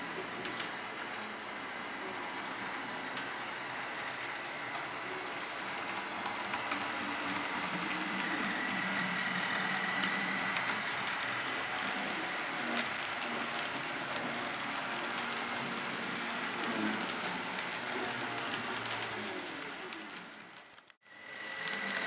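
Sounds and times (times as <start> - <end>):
high motor whine: 0.0 - 17.7, 21.0 - 22.0
model train rolling hiss: 0.0 - 20.2, 21.1 - 22.0.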